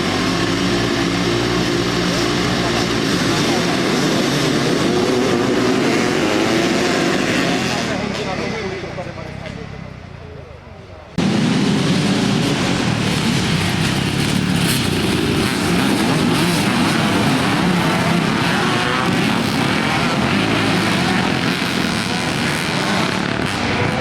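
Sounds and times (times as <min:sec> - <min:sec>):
motocross motorcycle engines: 0:00.0 - 0:24.0.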